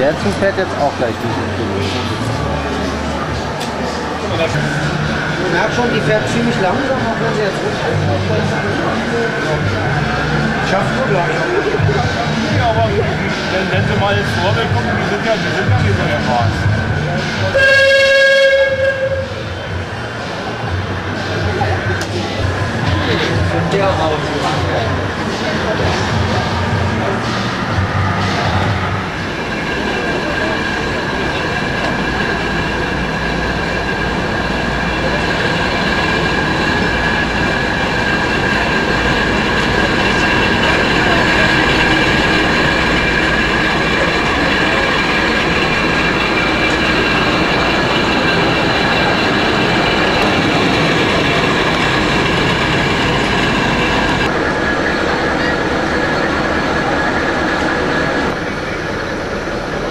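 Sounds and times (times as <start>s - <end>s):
high whine: 0.0s - 59.9s
locomotive diesel engine running: 0.0s - 59.9s.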